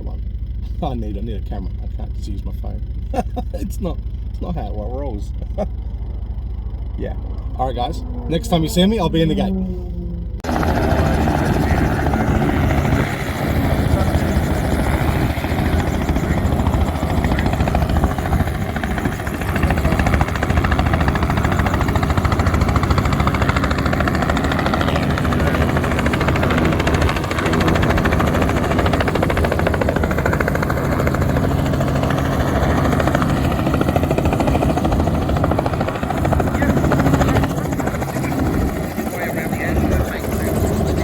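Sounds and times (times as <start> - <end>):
aircraft engine drone: 0.0 - 41.0.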